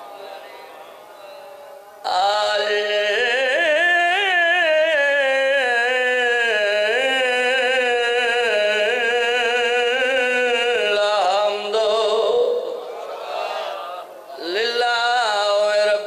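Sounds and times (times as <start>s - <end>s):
man chanting into microphone: 0.0s - 12.9s, 14.0s - 16.0s.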